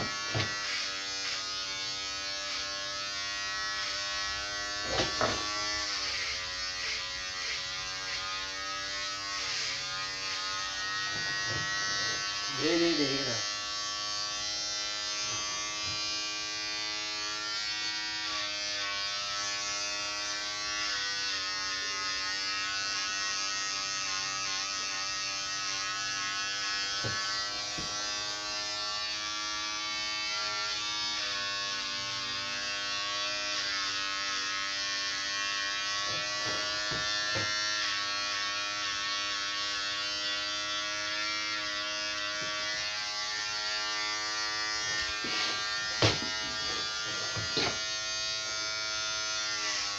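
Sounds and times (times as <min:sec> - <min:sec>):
electric hair clippers buzzing: 0:00.0 - 0:49.9.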